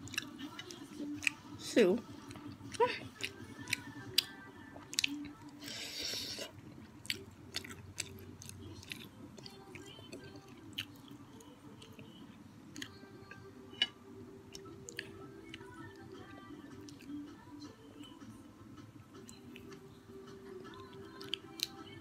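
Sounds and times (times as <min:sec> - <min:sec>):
close chewing: 0:00.0 - 0:01.5, 0:02.2 - 0:12.1, 0:12.7 - 0:13.9, 0:14.5 - 0:17.3, 0:19.2 - 0:22.0.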